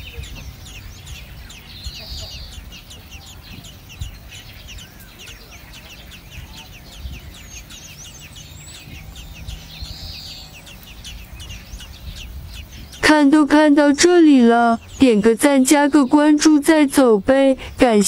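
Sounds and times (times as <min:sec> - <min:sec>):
birds chirping rapidly: 0:00.0 - 0:18.0.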